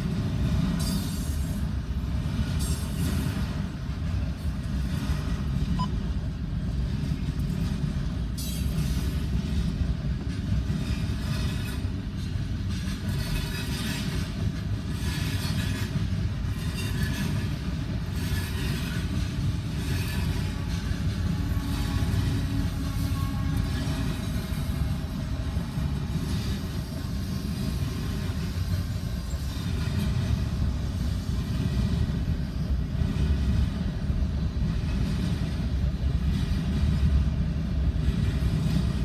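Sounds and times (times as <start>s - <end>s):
freight train wheels rumbling: 0.0s - 39.0s
train rattling: 0.0s - 39.0s.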